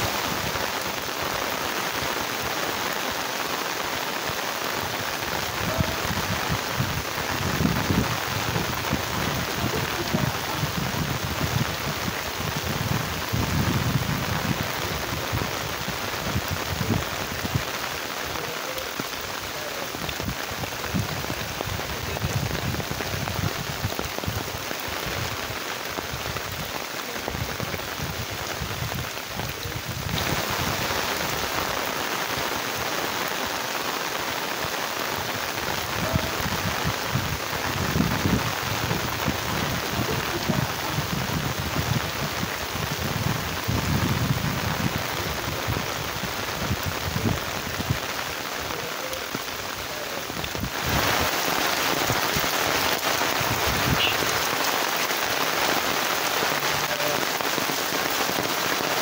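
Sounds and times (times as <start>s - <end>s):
rain on floodwater and grass: 0.0s - 59.0s.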